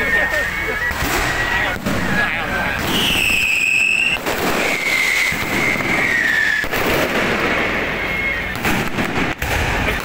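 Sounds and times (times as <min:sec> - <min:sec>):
fireworks crackling and popping: 0:00.0 - 0:10.0
high firework whistle: 0:00.0 - 0:10.0.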